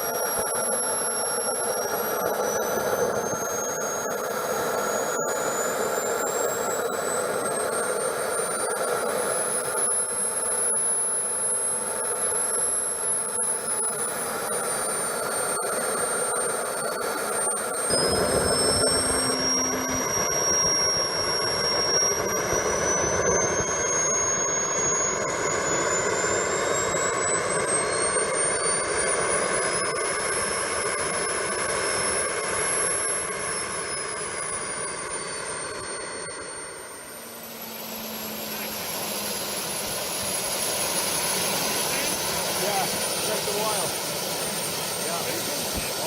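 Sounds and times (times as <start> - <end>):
model turbine engine whining: 0.0 - 46.0.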